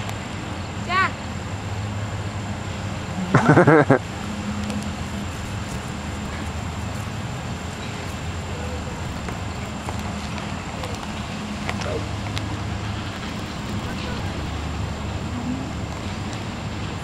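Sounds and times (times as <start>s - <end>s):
low outdoor background hum: 0.0s - 17.0s.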